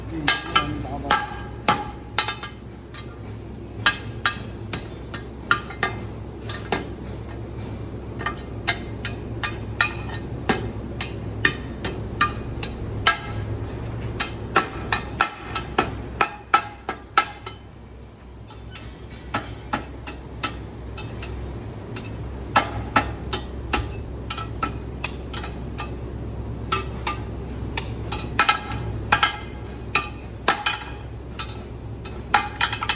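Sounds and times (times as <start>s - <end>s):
steady low hum: 0.0s - 32.9s
hammer striking iron: 0.1s - 17.8s, 18.4s - 32.9s.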